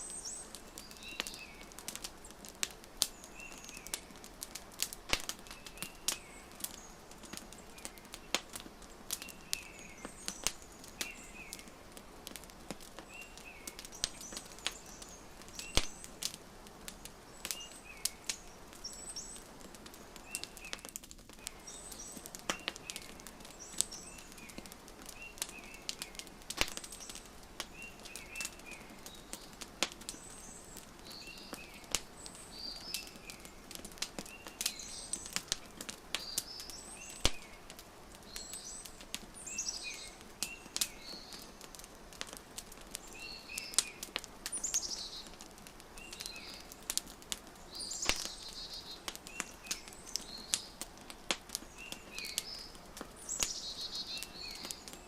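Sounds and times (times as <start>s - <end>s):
small birds chirping: 0.0s - 55.0s
wood fire crackling: 0.0s - 55.0s.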